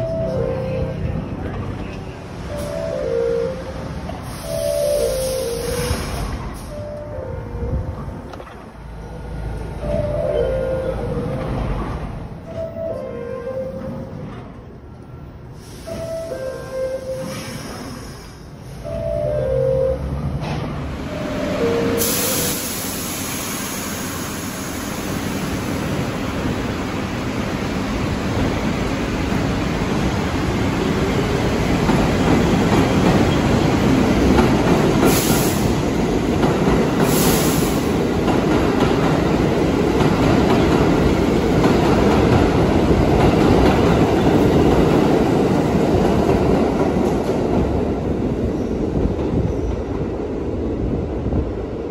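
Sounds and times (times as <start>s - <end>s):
subway train running on rails: 0.0s - 51.9s.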